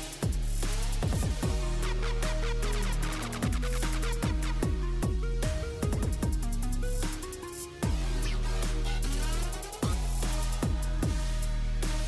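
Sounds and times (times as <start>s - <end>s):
ticking hi-hat rhythm: 0.0s - 12.0s
deep bass drum: 0.2s - 12.0s.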